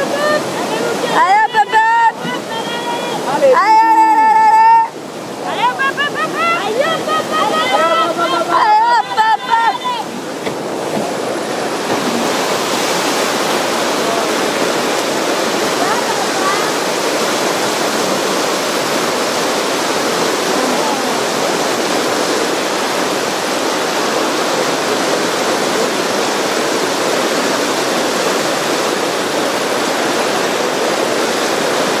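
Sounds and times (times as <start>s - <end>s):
whitewater rapids rushing: 0.0s - 32.0s.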